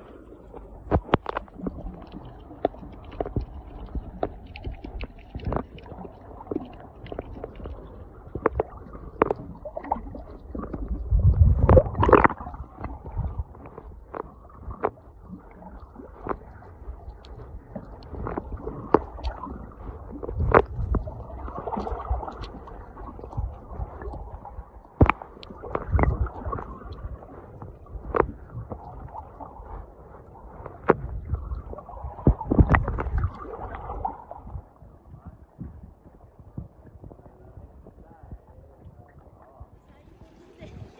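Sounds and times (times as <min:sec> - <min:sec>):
underwater rumbling water: 0:00.0 - 0:40.9.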